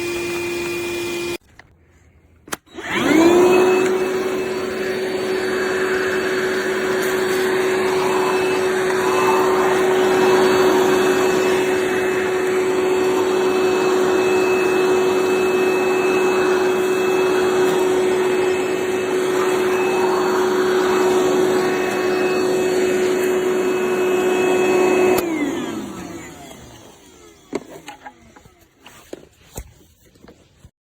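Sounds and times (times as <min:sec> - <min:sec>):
shop vacuum running: 0:00.0 - 0:01.4, 0:02.5 - 0:29.6.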